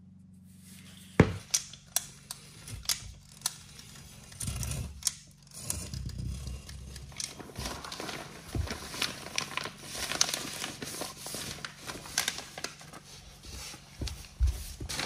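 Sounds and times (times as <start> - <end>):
handling noise and rustling: 0.6 - 15.0.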